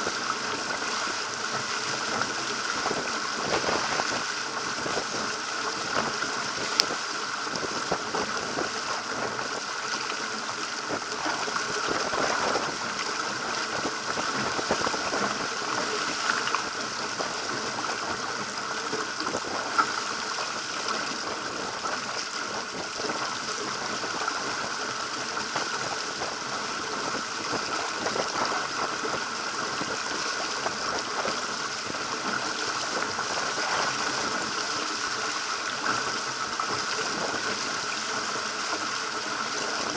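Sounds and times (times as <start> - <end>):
water splashing along a boat hull: 0.0 - 39.9.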